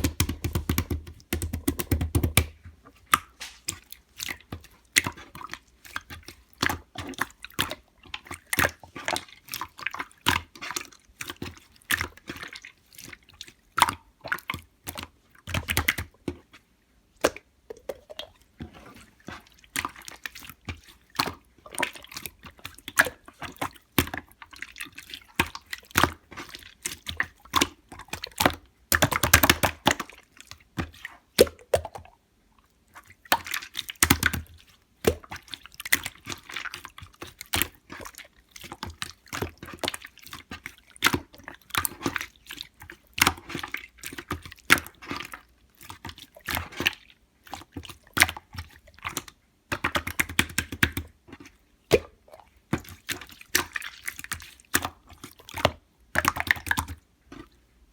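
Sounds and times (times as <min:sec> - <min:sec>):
slime squelching and popping: 0:00.0 - 0:16.6, 0:17.2 - 0:32.2, 0:32.9 - 0:57.6.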